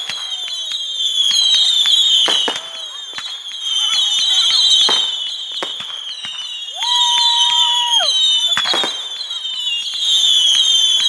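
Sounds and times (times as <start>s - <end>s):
falling firework whistles: 0.0s - 11.0s
firework bangs: 0.0s - 11.0s.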